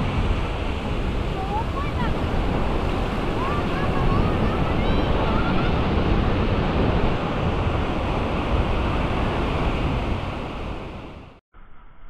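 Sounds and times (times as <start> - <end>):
sea surf breaking on sand: 0.0 - 11.4
wind buffeting microphone: 0.0 - 11.4.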